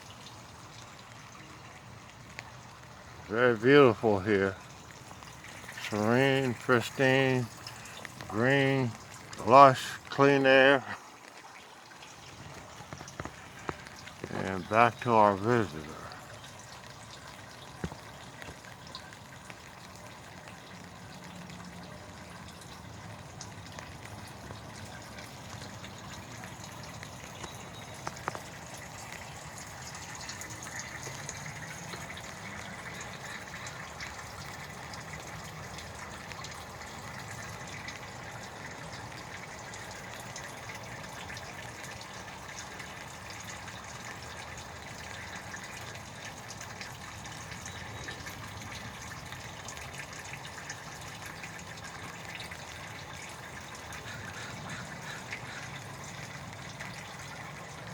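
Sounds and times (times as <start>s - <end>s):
rain falling: 0.0s - 57.9s.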